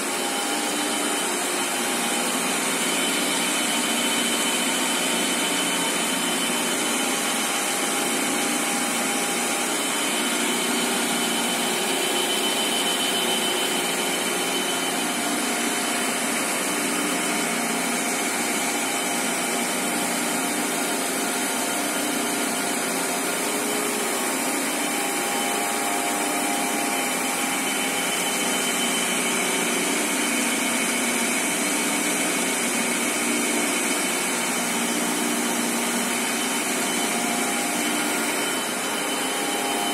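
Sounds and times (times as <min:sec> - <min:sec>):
thin high machine whine: 0:00.0 - 0:39.9.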